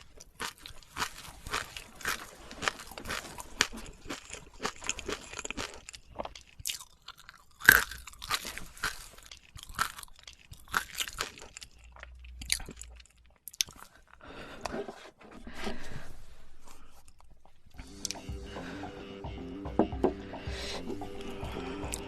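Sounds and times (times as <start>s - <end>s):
crunching and chewing crisp food: 0.0s - 14.9s, 16.5s - 18.7s, 20.6s - 22.0s.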